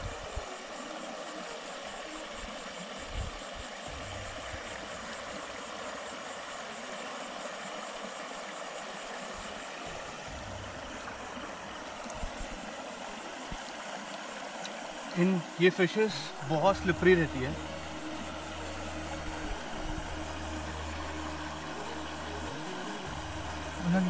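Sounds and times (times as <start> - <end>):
stream flowing over rocks: 0.0 - 24.0.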